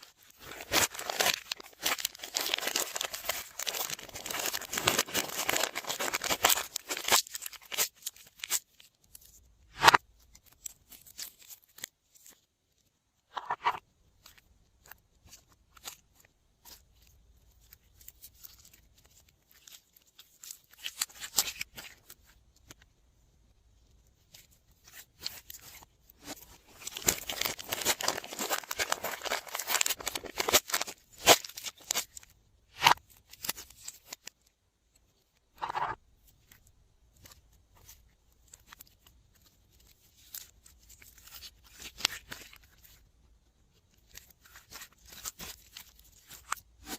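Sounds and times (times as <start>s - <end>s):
crinkling and crackling materials: 0.0s - 46.9s.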